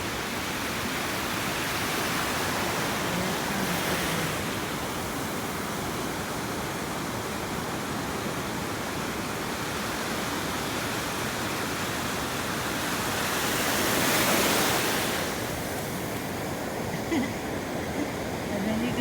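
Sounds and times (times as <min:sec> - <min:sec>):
ocean surf on sandy beach: 0:00.0 - 0:19.0.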